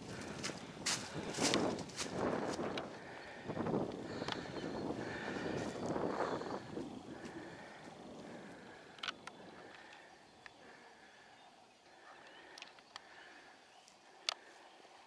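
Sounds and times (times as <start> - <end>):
faint distant birds: 0.0 - 15.0.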